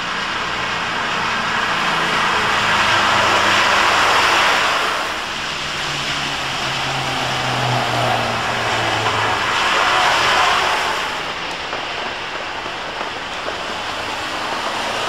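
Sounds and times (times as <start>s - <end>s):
falling rain: 0.0s - 15.0s
tyres hissing on wet road: 0.0s - 15.0s.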